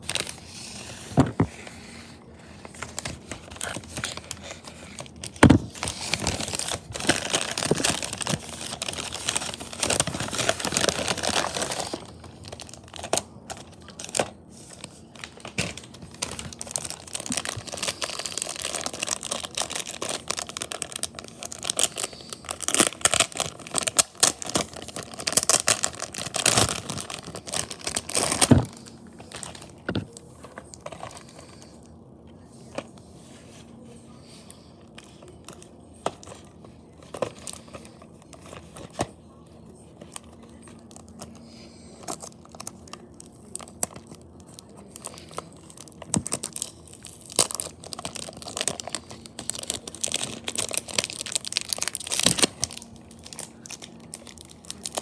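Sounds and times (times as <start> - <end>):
crinkling and rustling: 0.0 - 55.0.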